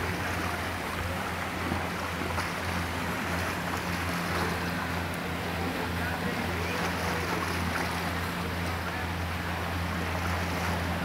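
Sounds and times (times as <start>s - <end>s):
water rushing around wading elephant: 0.0s - 11.0s.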